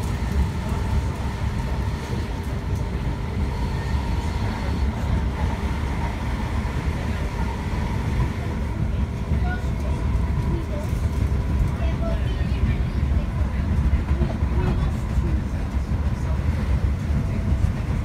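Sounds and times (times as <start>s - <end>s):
faint train whine: 0.0s - 18.0s
train wheels rumbling on rail: 0.0s - 18.0s.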